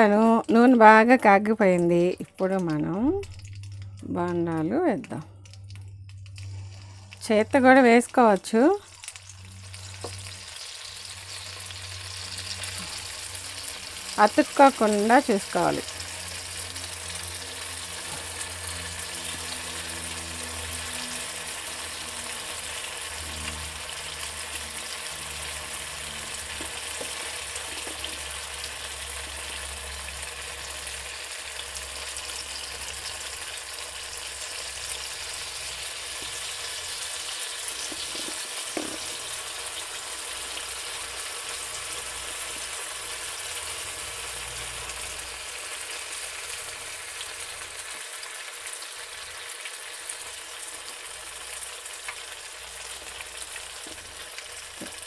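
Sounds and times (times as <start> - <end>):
batter sizzling in hot oil: 0.0 - 55.0.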